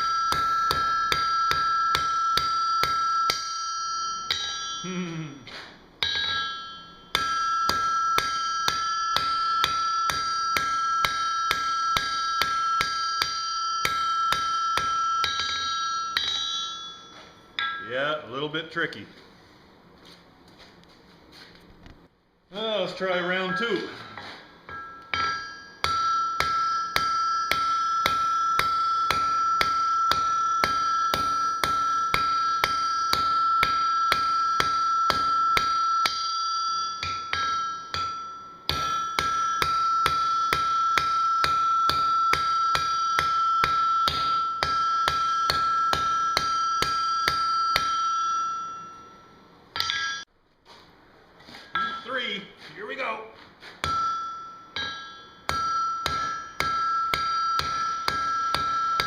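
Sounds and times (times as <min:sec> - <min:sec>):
hammer striking steel on anvil: 0:00.0 - 0:18.7, 0:23.0 - 0:50.3, 0:51.5 - 0:53.1, 0:53.7 - 0:59.0.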